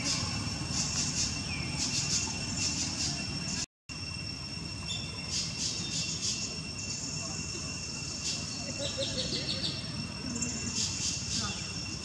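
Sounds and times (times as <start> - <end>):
bird chirp: 0.0 - 3.6, 4.8 - 12.0
insect chorus chirring: 0.0 - 12.0.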